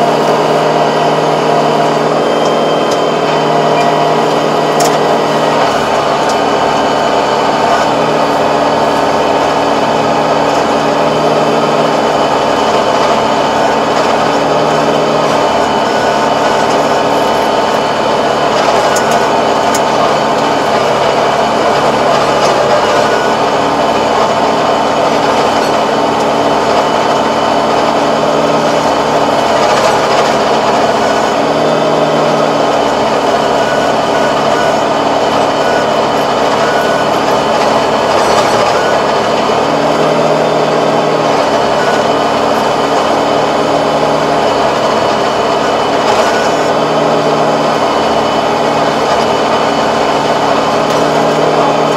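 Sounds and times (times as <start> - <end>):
rotary tiller churning soil: 0.0 - 51.9
tractor engine under load: 0.0 - 51.9.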